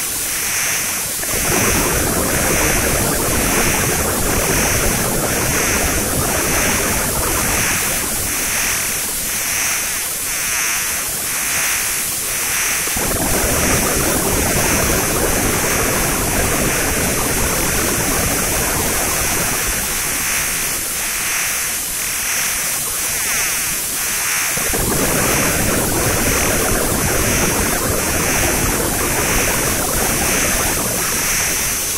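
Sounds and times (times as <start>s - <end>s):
electronic static hiss: 0.0s - 31.9s.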